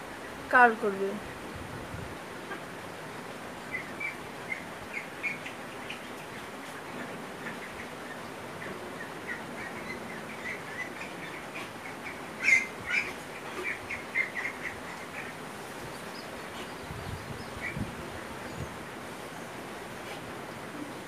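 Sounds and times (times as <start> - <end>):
steady background hiss: 0.0 - 21.0
small birds chirping: 3.5 - 21.0.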